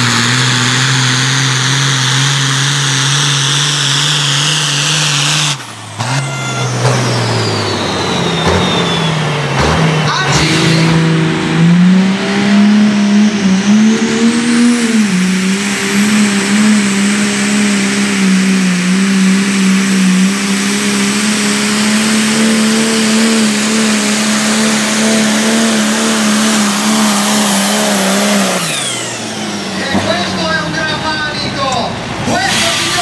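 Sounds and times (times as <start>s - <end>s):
tractor engine at full throttle: 0.0s - 33.0s.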